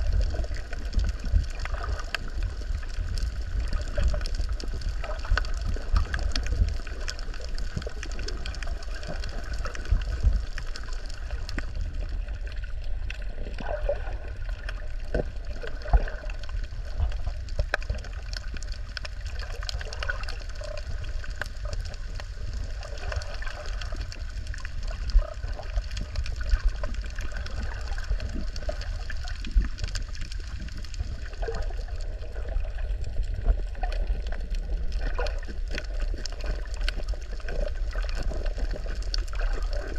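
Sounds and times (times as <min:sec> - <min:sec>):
low rumble of moving water: 0:00.0 - 0:39.9.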